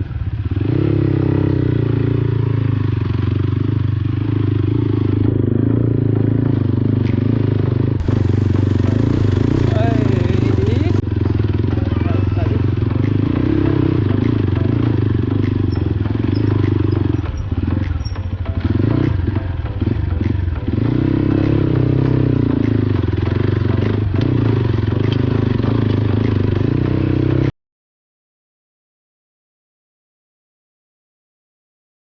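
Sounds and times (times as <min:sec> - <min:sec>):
motorcycle engine running: 0:00.0 - 0:27.5.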